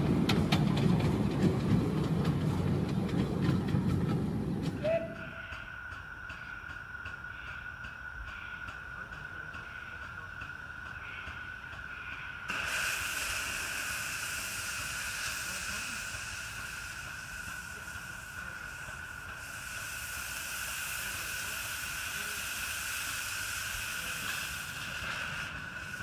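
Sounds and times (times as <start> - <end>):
steam locomotive venting steam: 0.0 - 26.0.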